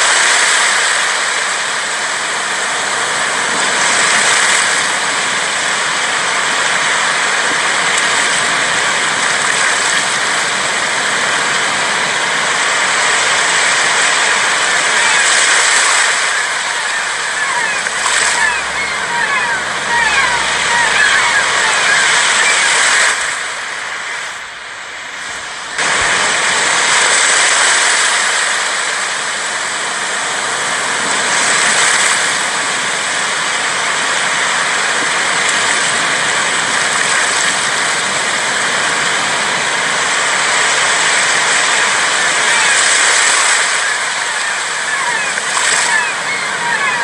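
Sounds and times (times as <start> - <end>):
sea waves washing ashore: 0.0 - 47.0.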